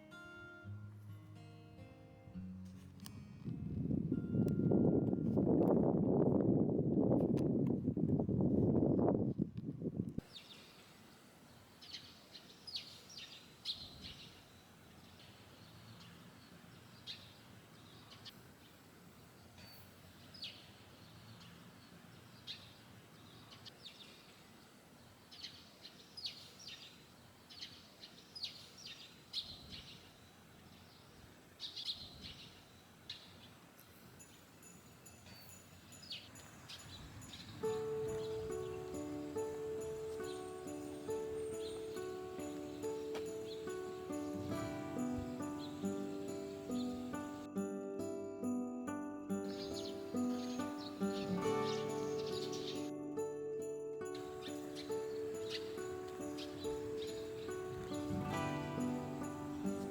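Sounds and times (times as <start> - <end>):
faint outdoor background: 0.0 - 59.9
small birds chirping: 10.2 - 48.2, 48.9 - 59.9.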